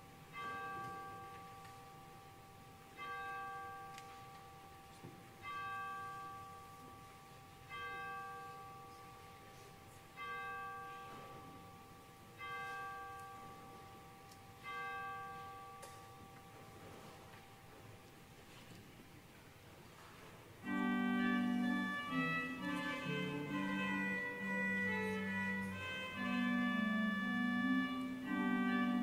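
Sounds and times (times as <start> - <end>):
church bell tolling: 0.0 - 18.0, 20.6 - 29.0.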